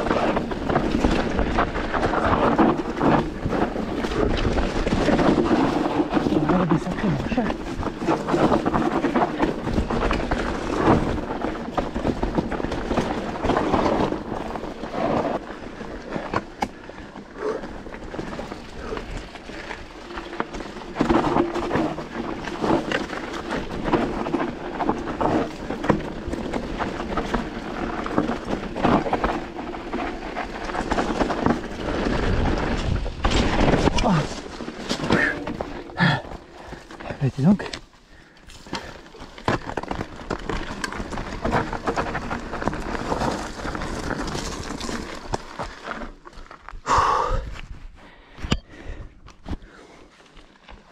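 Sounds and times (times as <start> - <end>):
bike rattling and knocking: 0.0 - 50.9.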